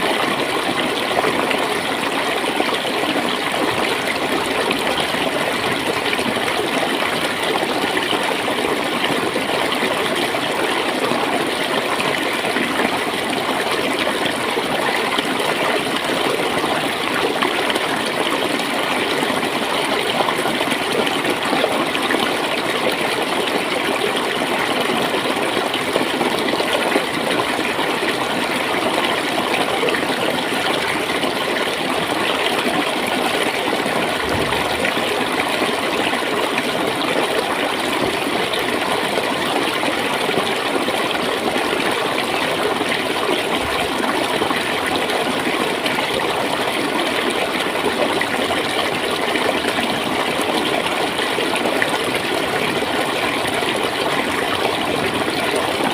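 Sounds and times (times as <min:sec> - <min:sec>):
water flowing and gurgling: 0:00.0 - 0:55.9.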